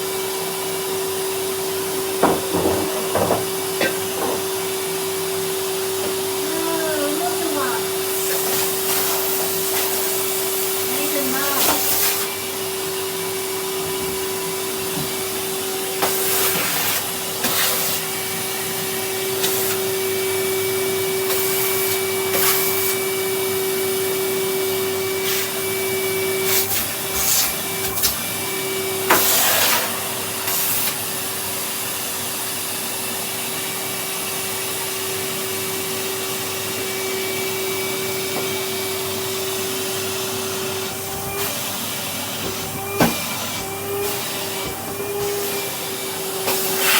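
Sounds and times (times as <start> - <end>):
vacuum cleaner whine: 0.0 - 46.9.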